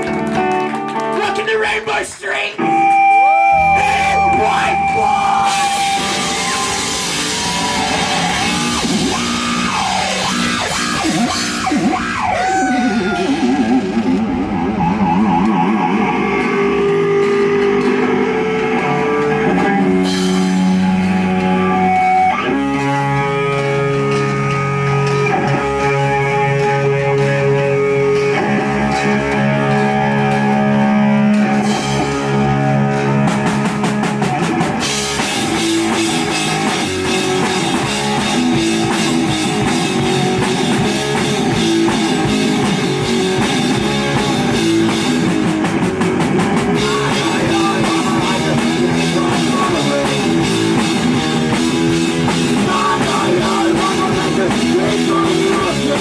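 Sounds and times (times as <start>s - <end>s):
electric guitar chords: 0.0s - 1.2s, 1.8s - 56.0s
live rock band playing: 0.0s - 56.0s.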